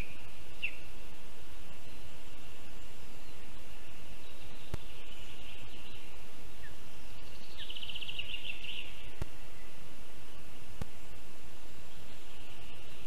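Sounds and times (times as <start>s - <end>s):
distant songbirds: 0.0s - 13.0s
steady hiss: 0.0s - 13.0s.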